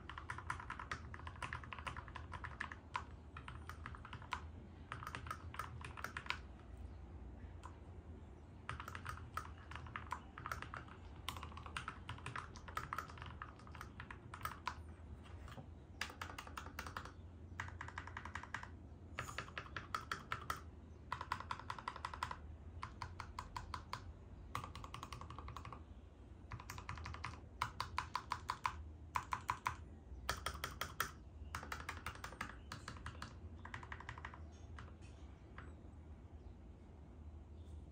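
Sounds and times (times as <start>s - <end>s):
mechanical keyboard typing: 0.0s - 6.6s, 8.6s - 35.8s.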